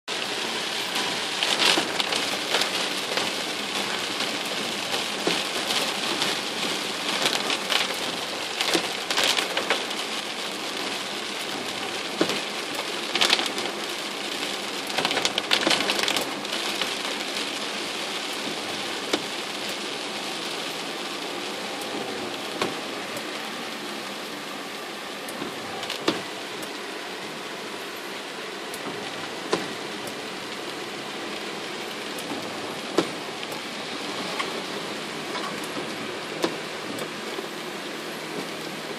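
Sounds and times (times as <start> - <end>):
rain on car roof: 0.1 - 38.9.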